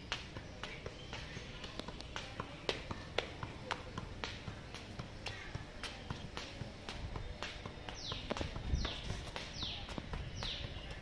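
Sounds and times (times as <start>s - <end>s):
football tapped off foot: 0.0s - 11.0s.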